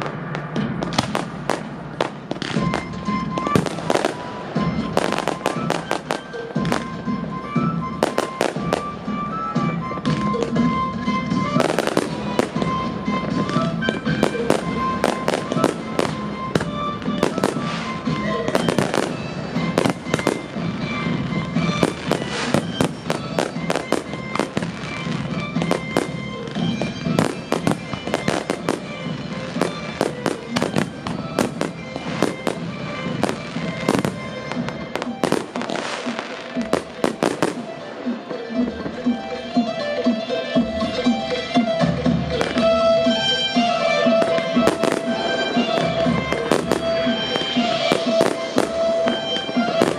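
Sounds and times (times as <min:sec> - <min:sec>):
fireworks bangs and crackles: 0:00.0 - 0:39.7, 0:40.6 - 0:49.9
music playing: 0:00.0 - 0:49.9.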